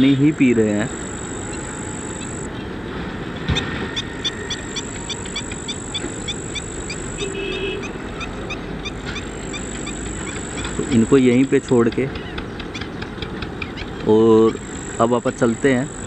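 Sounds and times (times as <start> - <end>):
bird sharp nasal calls: 0.0 - 2.7, 3.6 - 16.0.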